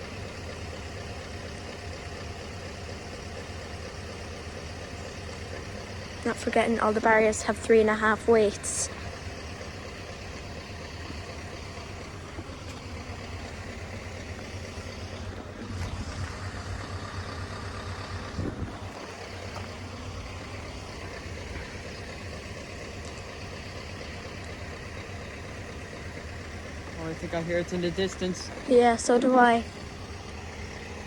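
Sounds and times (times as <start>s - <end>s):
vehicle engines idling: 0.0s - 31.0s.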